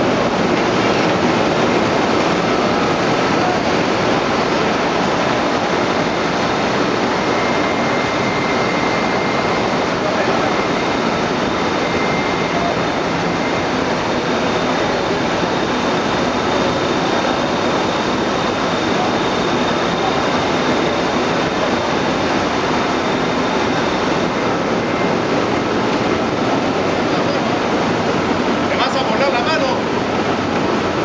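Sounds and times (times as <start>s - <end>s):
faint high whine: 0.0s - 31.0s.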